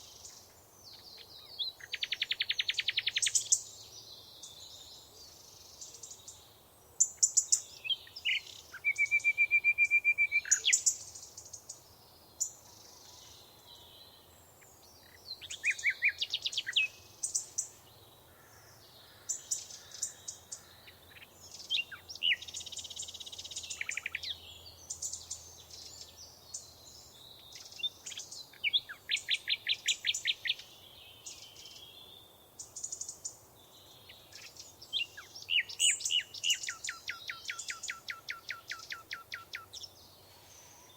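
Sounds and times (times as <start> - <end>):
faint steady hiss: 0.0 - 40.9
songbirds chirping and trilling: 0.0 - 40.9.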